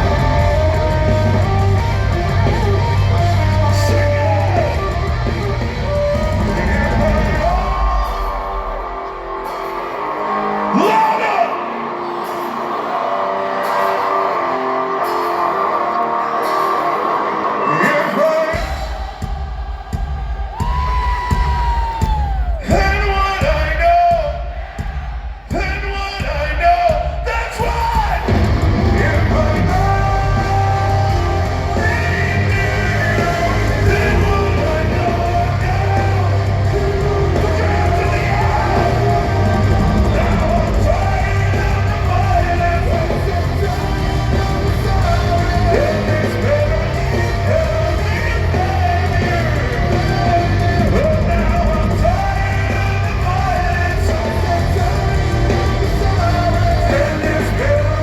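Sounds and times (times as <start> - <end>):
heavy metal band playing live: 0.0 - 58.0
singer yelling and singing: 0.0 - 58.0.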